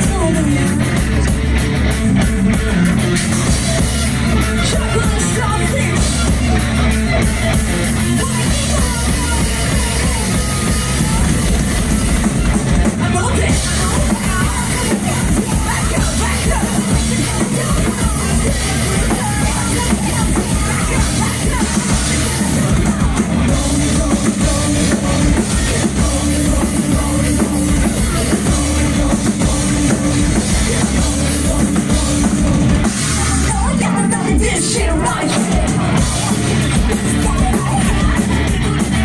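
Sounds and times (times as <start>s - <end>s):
person singing: 0.0s - 1.4s, 2.5s - 39.0s
drum kit: 0.0s - 39.0s
live heavy rock music: 0.0s - 39.0s.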